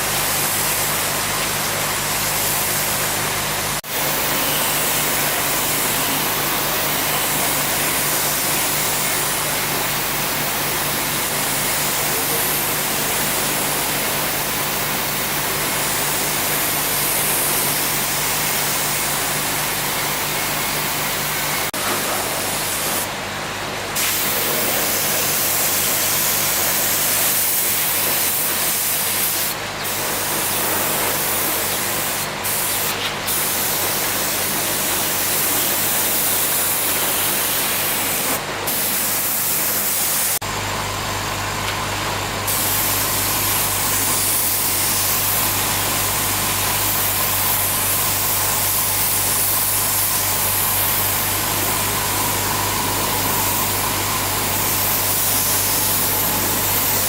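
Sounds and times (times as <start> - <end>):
loud spraying hiss: 3.8 - 23.1, 24.0 - 40.4, 42.5 - 57.0.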